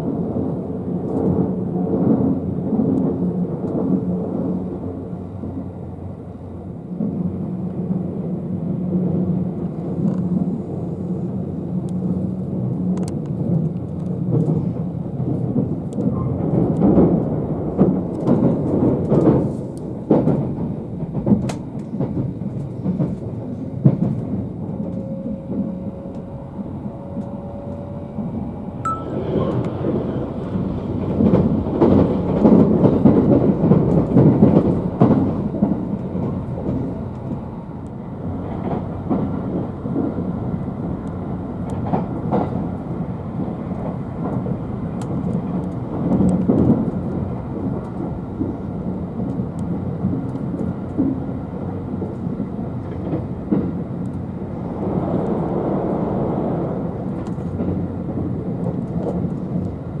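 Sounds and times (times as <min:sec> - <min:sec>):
passing train: 0:00.0 - 1:00.0
train rumbling on rails: 0:00.0 - 1:00.0.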